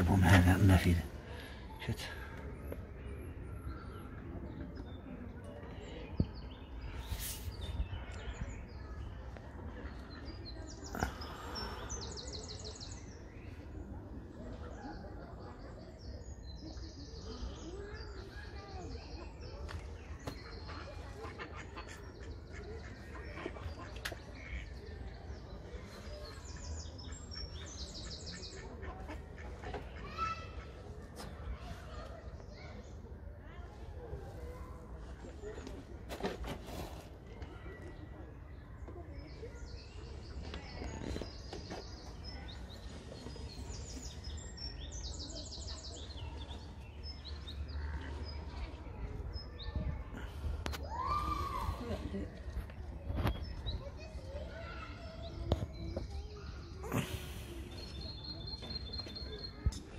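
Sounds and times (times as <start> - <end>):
birds calling and chirping: 0.0 - 59.9.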